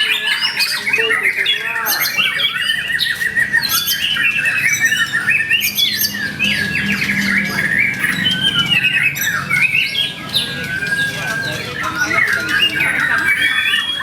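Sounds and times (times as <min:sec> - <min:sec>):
birds singing whistled phrases: 0:00.0 - 0:14.0.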